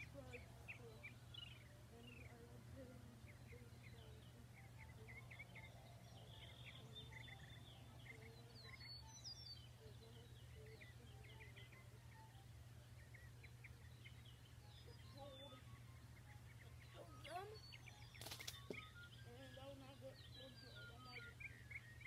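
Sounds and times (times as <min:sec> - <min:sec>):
distant birds chirping: 0:00.0 - 0:22.0
low steady hum: 0:00.0 - 0:22.0.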